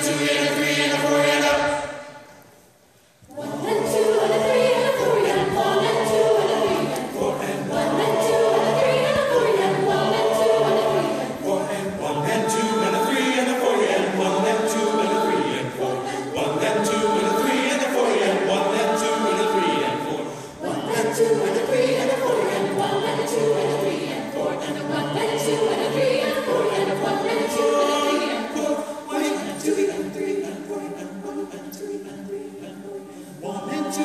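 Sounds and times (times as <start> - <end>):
mixed choir singing: 0.0 - 2.3, 3.3 - 34.0.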